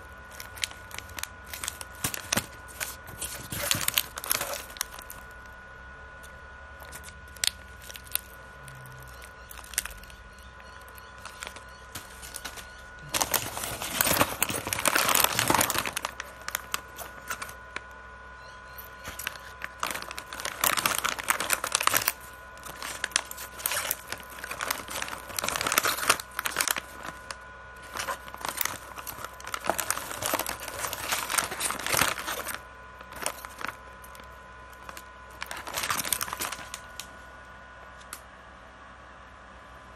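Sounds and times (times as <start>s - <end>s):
plastic wrappers crinkling: 0.0s - 5.6s, 6.8s - 17.9s, 18.7s - 37.1s.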